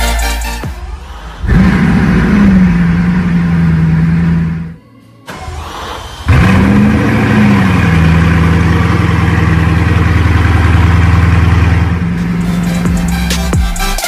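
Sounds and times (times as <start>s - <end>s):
car engine starting and idling: 0.0s - 14.0s.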